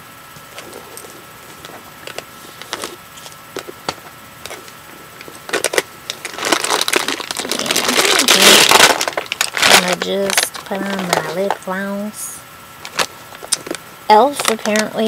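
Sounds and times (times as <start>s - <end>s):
rustling and crinkling: 0.3s - 12.0s, 12.8s - 15.0s.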